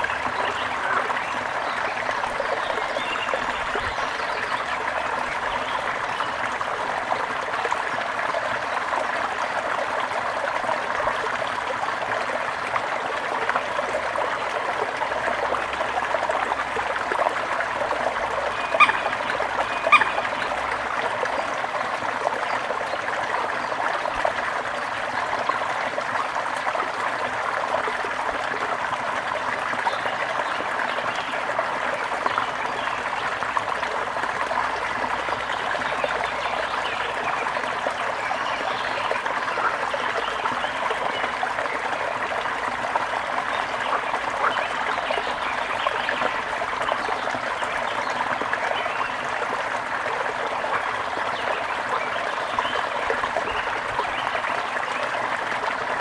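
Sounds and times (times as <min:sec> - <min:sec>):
water trickling over stones: 0:00.0 - 0:56.0.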